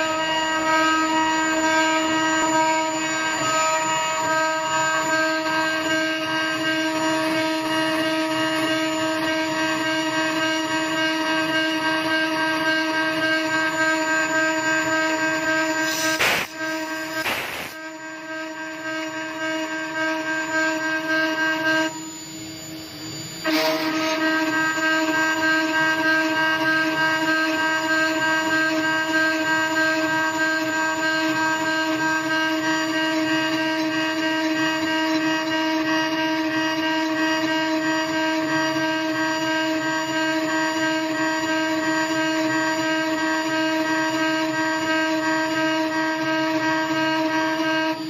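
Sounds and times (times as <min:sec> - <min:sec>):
metal cutting noise: 0:00.0 - 0:48.0
router spindle whining: 0:00.0 - 0:48.0.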